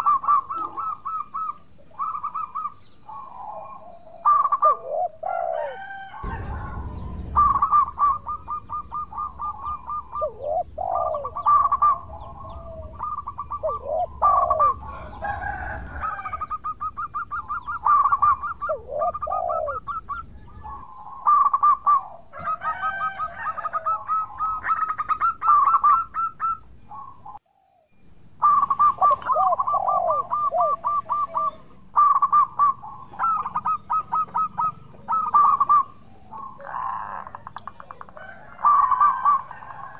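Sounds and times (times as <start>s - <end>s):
dove cooing: 0.0s - 27.8s, 28.4s - 39.9s.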